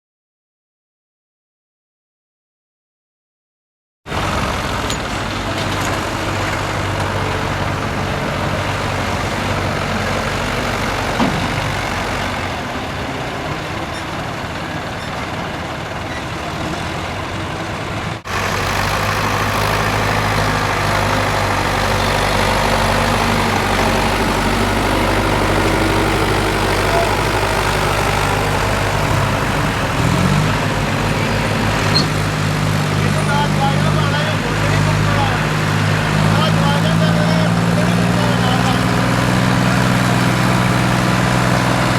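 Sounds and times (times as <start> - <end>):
tractor diesel engine running: 4.1 - 41.9.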